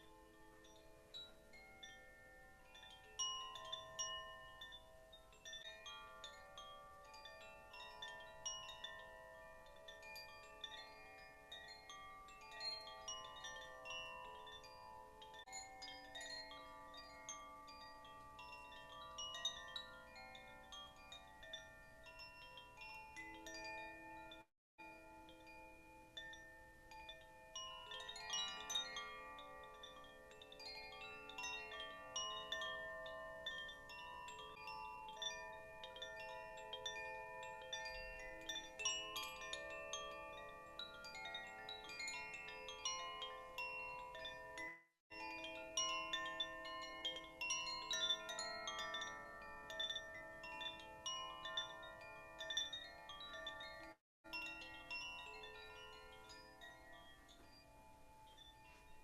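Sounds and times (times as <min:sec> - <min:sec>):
metallic chimes ringing: 0:00.0 - 0:59.0.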